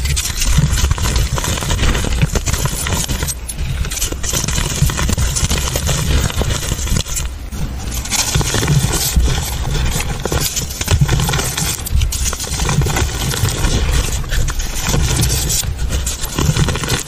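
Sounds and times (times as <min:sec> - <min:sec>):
hands crunching crumbly powder: 0:00.0 - 0:17.0.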